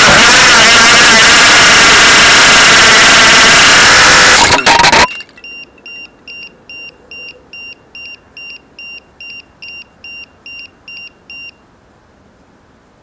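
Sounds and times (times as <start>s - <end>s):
electronic buzzer beeping: 0.0s - 11.5s.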